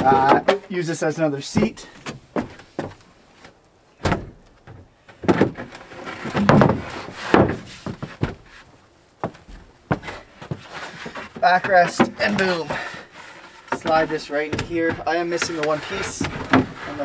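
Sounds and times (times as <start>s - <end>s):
wooden panels knocking and scraping: 0.0s - 0.7s, 4.0s - 17.0s.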